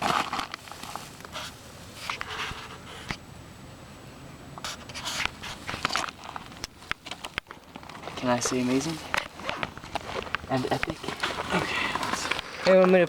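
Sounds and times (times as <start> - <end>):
scratchy rustling and scraping: 0.0 - 3.2, 4.6 - 13.0.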